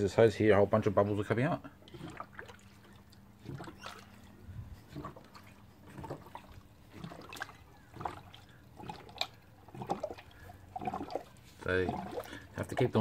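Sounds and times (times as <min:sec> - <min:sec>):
coolant water gurgling and bubbling: 0:01.1 - 0:13.0.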